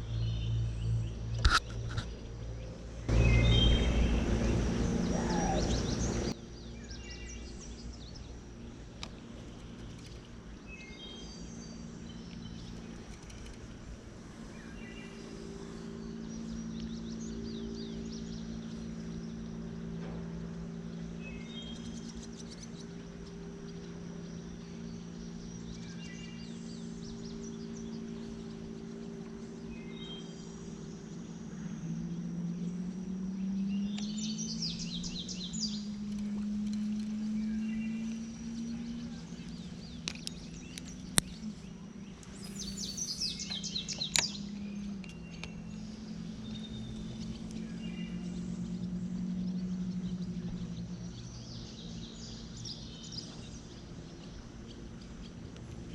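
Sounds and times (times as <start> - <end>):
bird chirping phrase: 0.0 - 8.8, 14.2 - 55.4
steady low hum: 0.0 - 55.9.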